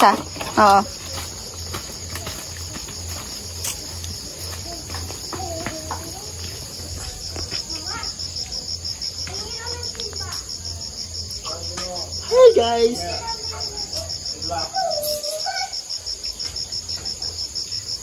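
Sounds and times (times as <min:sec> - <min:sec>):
crickets trilling: 0:00.0 - 0:18.0
fast pulsing insect chirp: 0:00.0 - 0:18.0.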